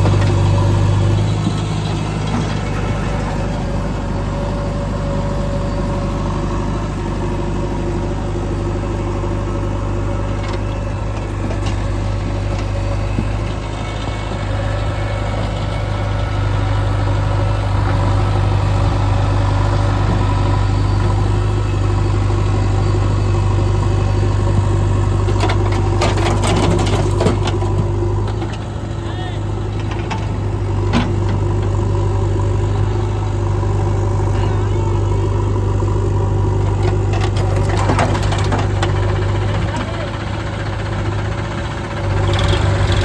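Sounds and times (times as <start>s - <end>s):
diesel engine humming: 0.0s - 43.0s.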